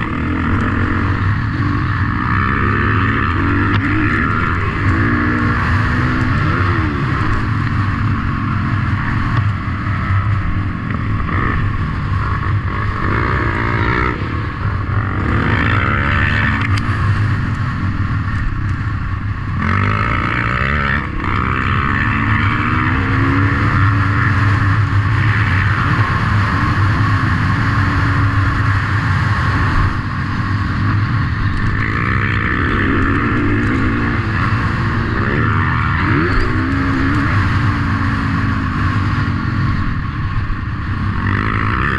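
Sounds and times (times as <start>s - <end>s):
motocross engines revving: 0.0s - 41.9s.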